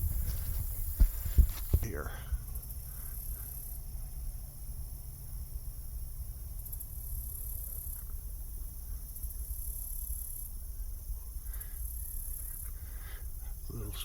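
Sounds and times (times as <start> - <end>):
insect trilling: 0.6 - 14.0.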